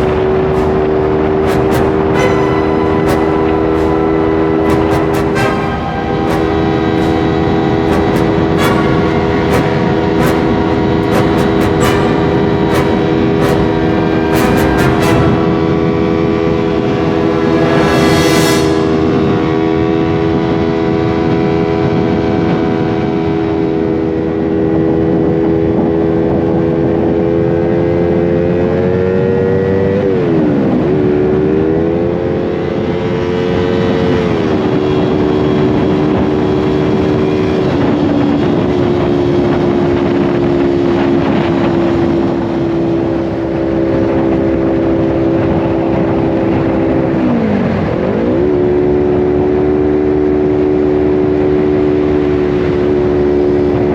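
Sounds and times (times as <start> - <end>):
wind noise: 0.0 - 29.5, 30.1 - 53.9
motorcycle engine cruising: 0.0 - 53.9
road noise: 0.0 - 53.9.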